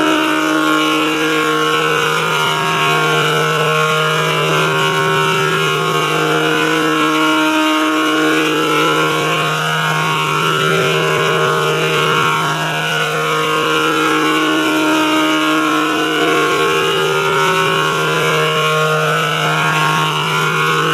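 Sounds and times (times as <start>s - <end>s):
steady electronic drone: 0.0s - 20.9s.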